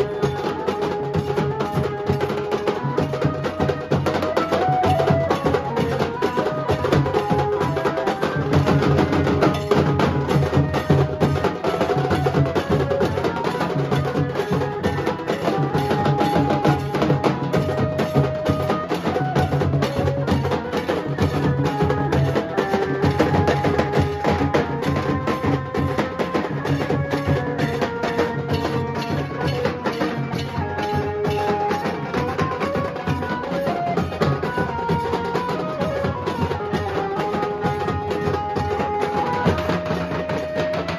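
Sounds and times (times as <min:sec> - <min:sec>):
dhol drumming: 0:00.0 - 0:40.9
sustained melody: 0:00.0 - 0:40.9.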